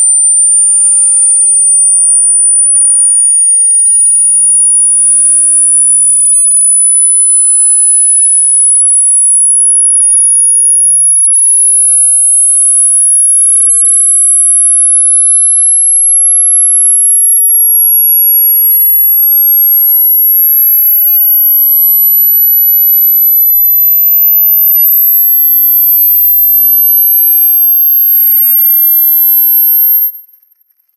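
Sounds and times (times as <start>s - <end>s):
high-pitched electronic tone: 0.0s - 30.6s.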